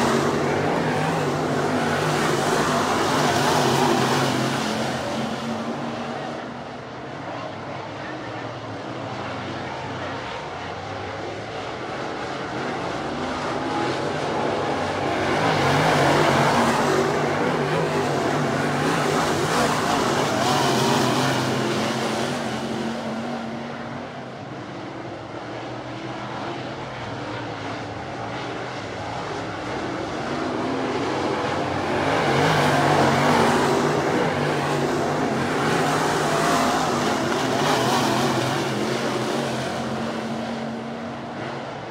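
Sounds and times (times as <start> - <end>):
race car engines: 0.0 - 41.9.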